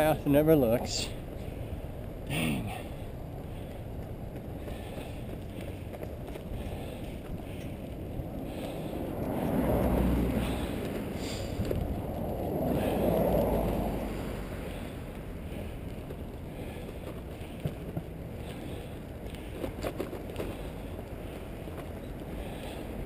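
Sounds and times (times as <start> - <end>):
bicycle rolling on pavement: 0.0 - 23.0
wind rushing over microphone: 0.0 - 23.0.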